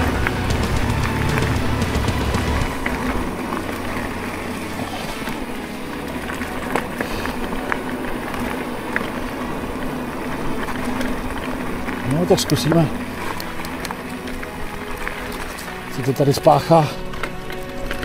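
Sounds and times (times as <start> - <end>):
bike clicks and rattles: 0.0 - 18.0
tyres rolling on trail: 0.0 - 18.0.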